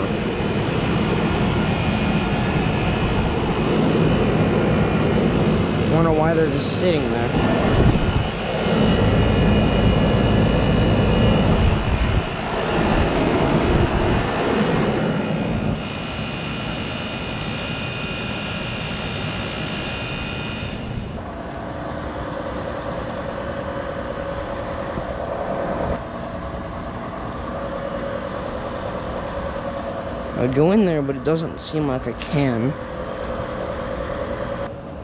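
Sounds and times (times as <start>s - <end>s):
steady tones: 0.0s - 34.7s
air conditioner fan rushing: 0.0s - 35.0s
compressor hum: 0.0s - 35.0s.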